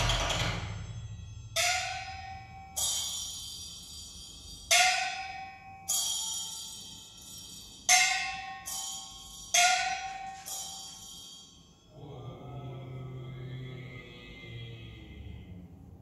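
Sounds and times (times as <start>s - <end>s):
bright high chime: 0.0s - 13.0s
low ringing bell: 0.0s - 13.9s.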